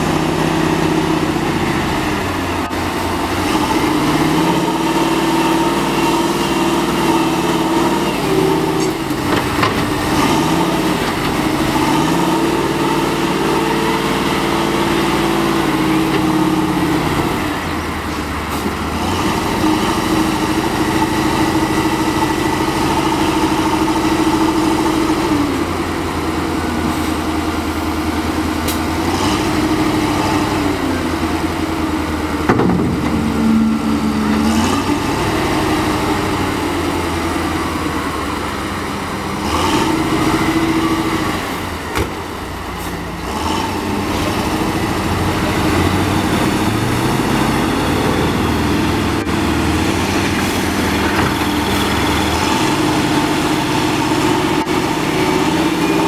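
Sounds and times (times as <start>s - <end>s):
wheel loader diesel engine: 0.0s - 56.0s.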